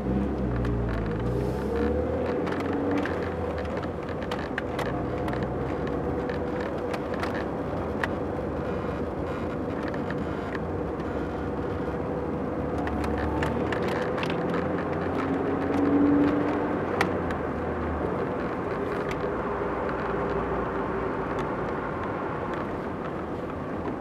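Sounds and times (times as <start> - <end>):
engine hum: 0.0 - 24.0
road and tyre rumble: 0.0 - 24.0.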